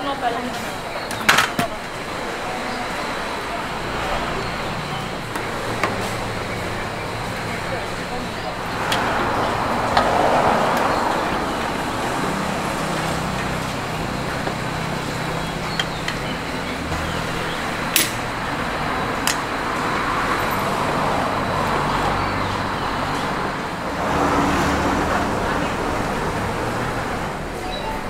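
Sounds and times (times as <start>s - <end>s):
road traffic: 0.0s - 28.0s
engine running: 1.9s - 28.0s.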